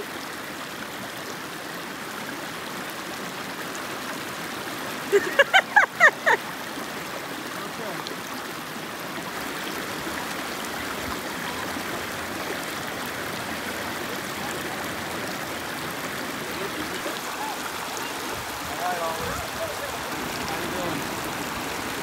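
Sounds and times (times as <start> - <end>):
creek water flowing over stones: 0.0 - 22.0.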